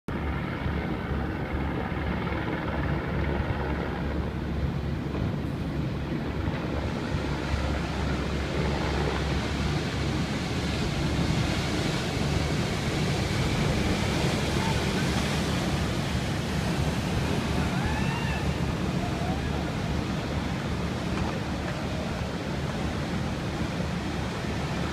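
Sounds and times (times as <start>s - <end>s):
water rushing and splashing: 0.2s - 24.9s.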